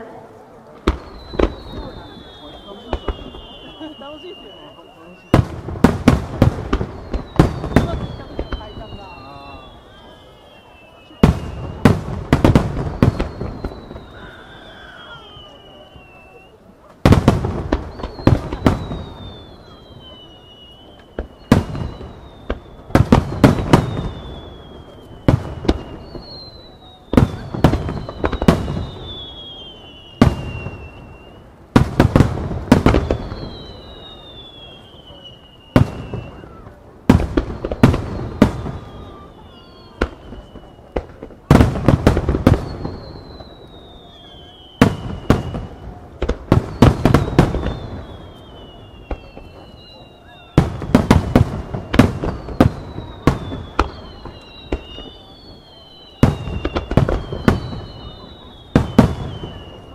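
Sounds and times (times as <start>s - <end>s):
falling firework whistles: 0.7s - 59.9s.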